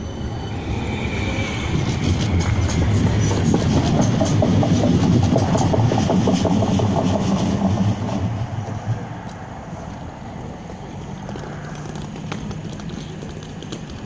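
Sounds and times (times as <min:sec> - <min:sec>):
tram wheels rumbling on rails: 0:00.0 - 0:14.0
quick clicks of tram wheels: 0:01.8 - 0:14.0.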